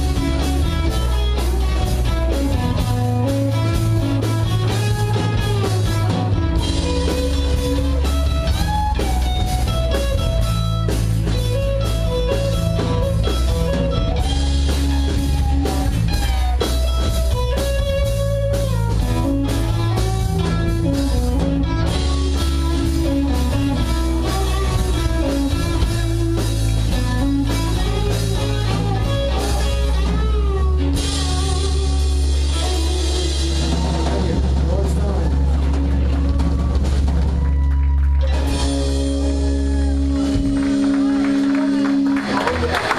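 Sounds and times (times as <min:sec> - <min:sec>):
electric guitar lead: 0:00.0 - 0:42.9
live rock band playing: 0:00.0 - 0:42.9.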